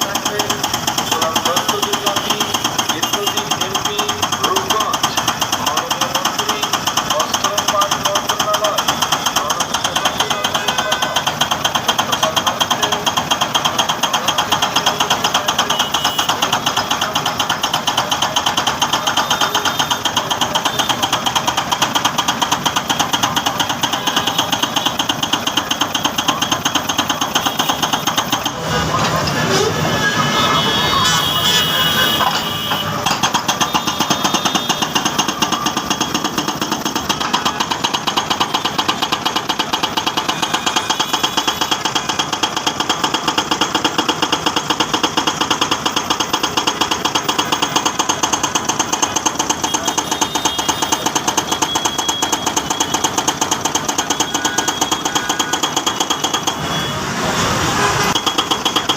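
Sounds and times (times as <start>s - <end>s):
hydraulic breaker pounding concrete: 0.0s - 58.9s.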